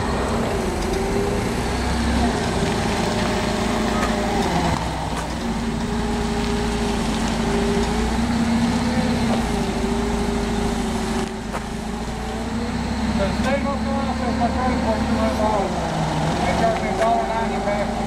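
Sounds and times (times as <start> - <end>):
forklift engine running: 0.0 - 18.0.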